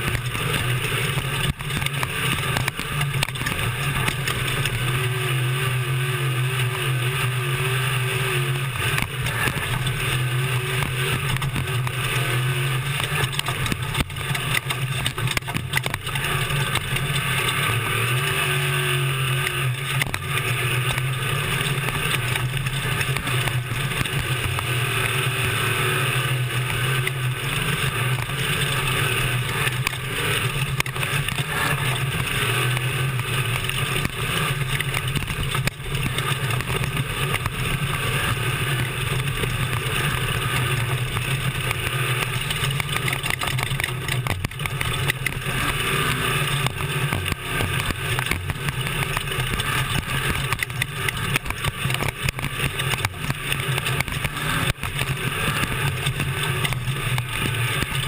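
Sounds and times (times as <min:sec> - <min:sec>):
knocks and rattles over rough ground: 0:00.0 - 0:58.0
truck engine running under load: 0:00.0 - 0:58.0.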